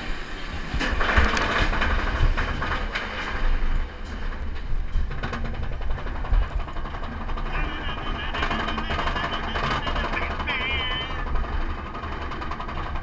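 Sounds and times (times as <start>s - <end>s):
roller coaster chain lift clatter: 0.2s - 13.0s.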